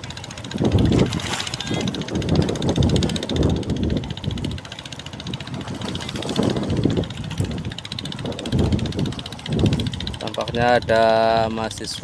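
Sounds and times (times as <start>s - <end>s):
boat diesel engine running: 0.0s - 12.0s
wind on microphone: 0.0s - 12.0s.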